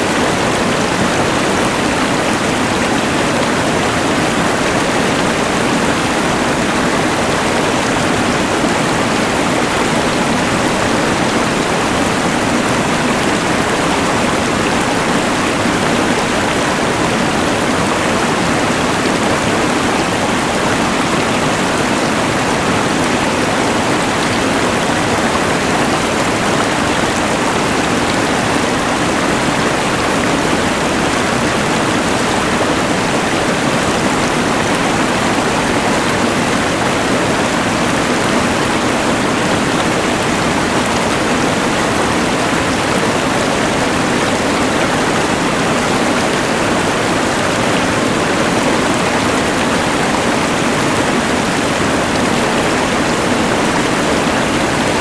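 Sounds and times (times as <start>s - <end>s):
rushing river: 0.0s - 55.0s.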